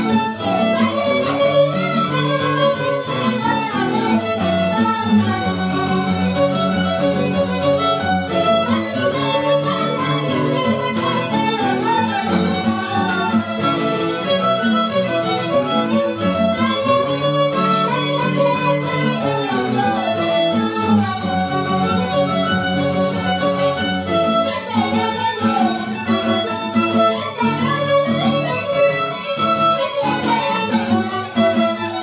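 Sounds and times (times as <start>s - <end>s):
mandolin: 0.0s - 32.0s
strummed guitars: 0.0s - 32.0s
violins playing melody: 0.0s - 32.0s.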